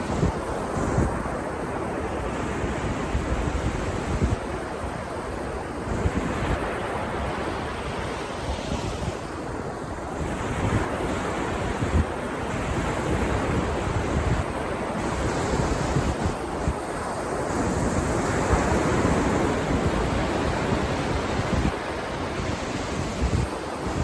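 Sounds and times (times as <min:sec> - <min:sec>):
ocean surf washing onto beach: 0:00.0 - 0:24.0
wind rumbling on microphone: 0:00.0 - 0:24.0.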